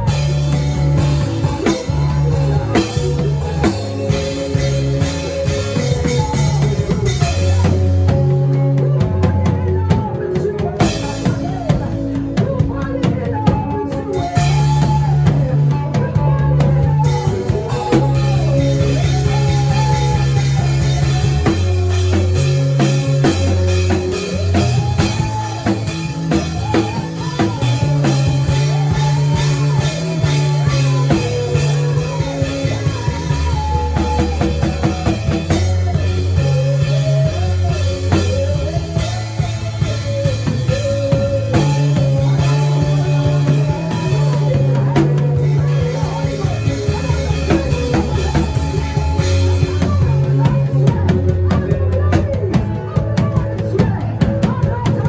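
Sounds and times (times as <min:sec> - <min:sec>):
sustained bass line: 0:00.0 - 0:55.0.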